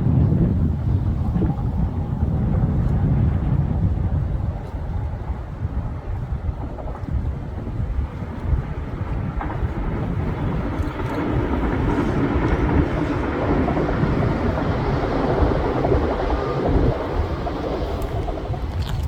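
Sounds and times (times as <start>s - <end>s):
wind buffeting microphone: 0.0s - 19.0s
train passing: 0.5s - 19.0s.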